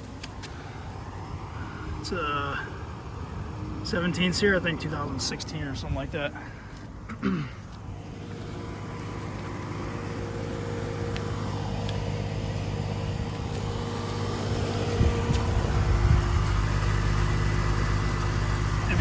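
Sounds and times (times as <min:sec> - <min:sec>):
heat pump humming: 0:00.0 - 0:19.0.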